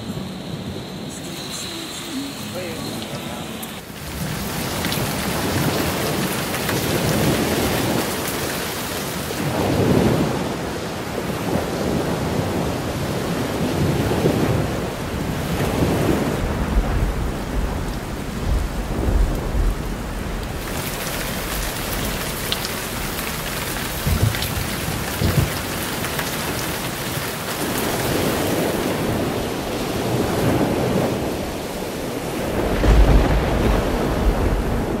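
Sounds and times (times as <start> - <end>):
thunder rolling: 0.0 - 26.1, 27.6 - 35.0
heavy rain falling: 0.0 - 35.0.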